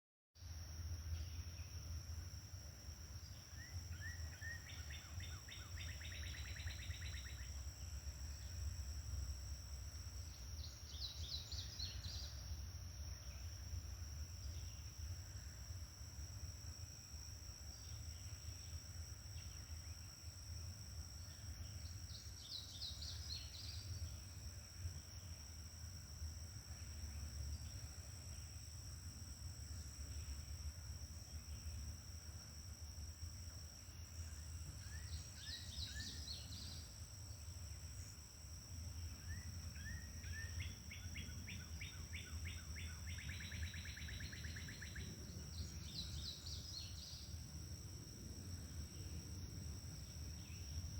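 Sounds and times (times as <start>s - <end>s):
insects droning: 0.4s - 50.9s.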